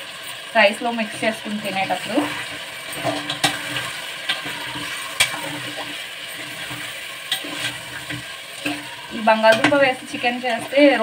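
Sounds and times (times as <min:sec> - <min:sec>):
curry sizzling in a pot: 0:00.0 - 0:11.0.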